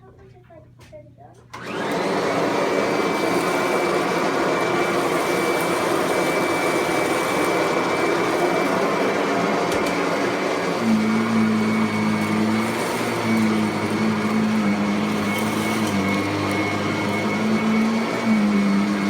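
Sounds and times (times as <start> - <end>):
vacuum cleaner running: 1.5 - 19.0.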